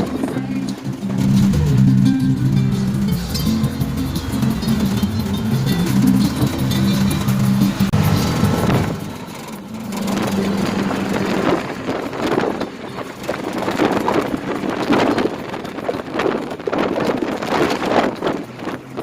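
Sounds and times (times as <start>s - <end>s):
vehicle low hum: 0.0s - 19.0s
wind gusts on microphone: 0.0s - 19.0s.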